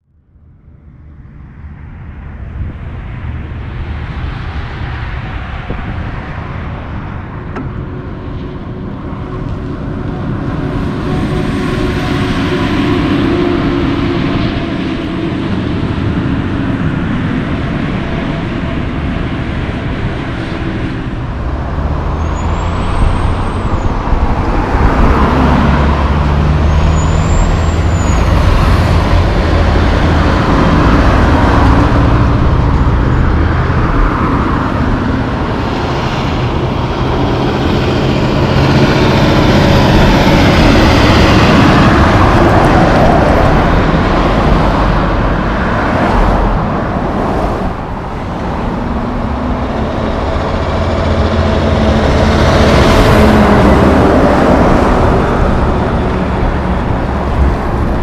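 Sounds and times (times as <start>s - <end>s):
diesel trucks passing: 0.1s - 58.0s
passing car traffic: 0.1s - 58.0s.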